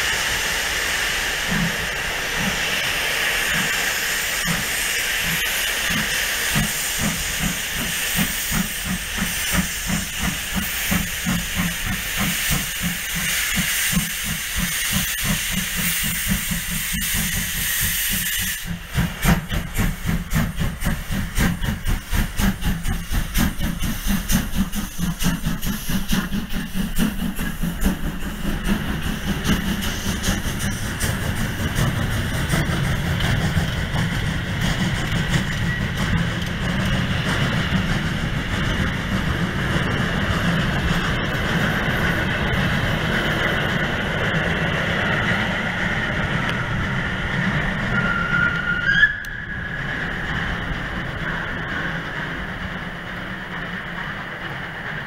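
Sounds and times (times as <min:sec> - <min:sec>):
rhythmic beats of moving train: 0:00.0 - 0:55.0
steam hissing: 0:00.0 - 0:55.0
steam locomotive exhaust chuffs: 0:00.0 - 0:55.0.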